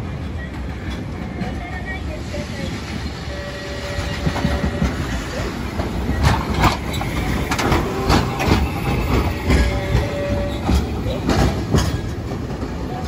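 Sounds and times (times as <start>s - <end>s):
streetcar rumbling past: 0.0s - 13.0s
wheels clacking over track: 0.0s - 13.0s.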